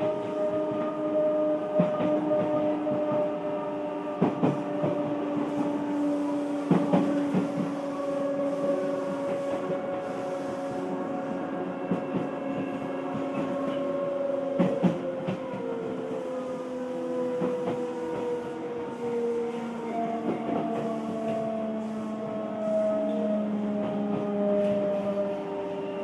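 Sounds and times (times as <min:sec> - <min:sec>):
train motor whine: 0:00.0 - 0:26.0.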